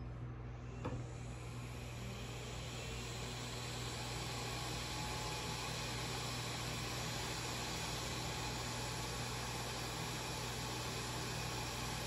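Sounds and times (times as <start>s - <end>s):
hot-air gun hissing: 1.4s - 12.0s.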